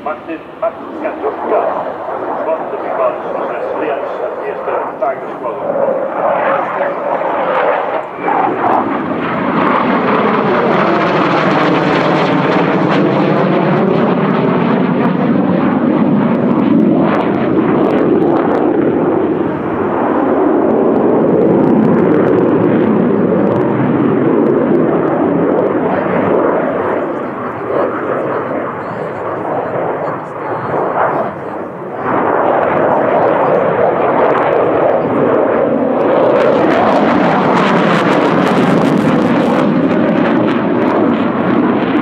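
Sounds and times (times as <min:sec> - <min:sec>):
jet engines roaring overhead: 0:00.0 - 0:42.0.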